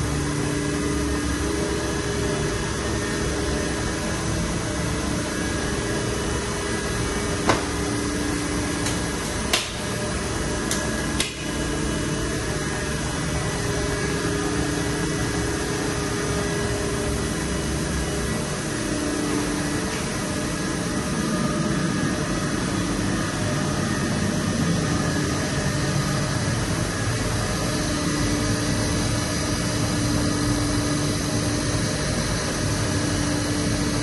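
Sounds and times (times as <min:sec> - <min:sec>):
lathe mechanical hum: 0:00.0 - 0:34.0.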